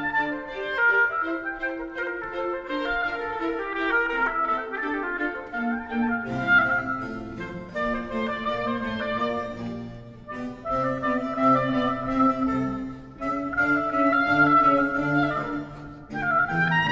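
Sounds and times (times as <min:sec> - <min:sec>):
brass and woodwinds playing: 0:00.0 - 0:16.9
orchestral music: 0:00.0 - 0:16.9.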